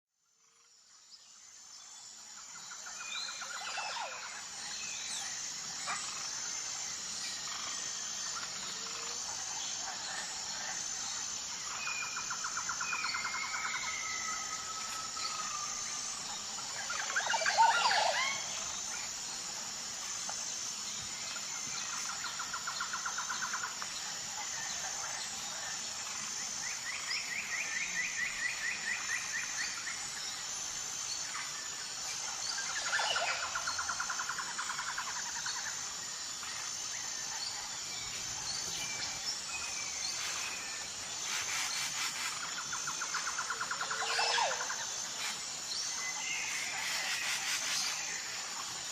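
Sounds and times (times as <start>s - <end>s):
high-pitched insect drone: 0.2s - 48.9s.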